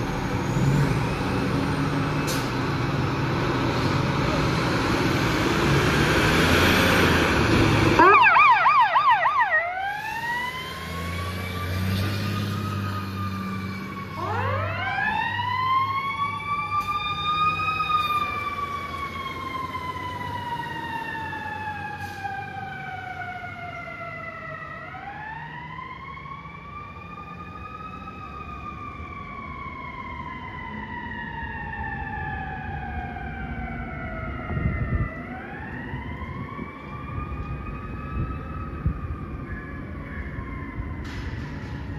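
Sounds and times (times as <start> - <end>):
fire truck engine: 0.0 - 41.9
fire truck siren wailing: 0.0 - 41.9
siren yelp: 7.9 - 41.9.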